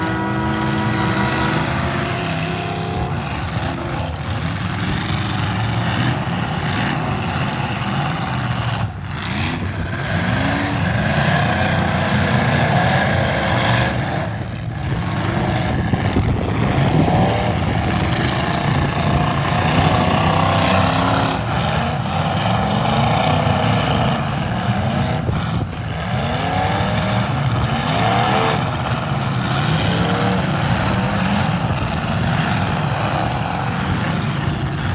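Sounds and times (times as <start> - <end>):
car engines revving: 0.0 - 34.9.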